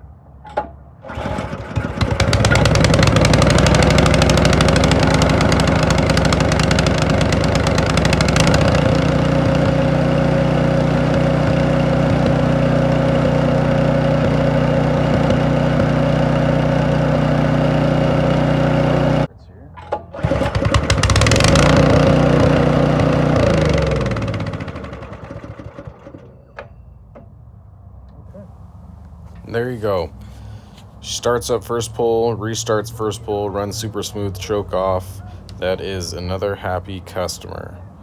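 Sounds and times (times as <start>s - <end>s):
snowblower engine starting and running: 0.5s - 26.7s, 28.4s - 38.0s.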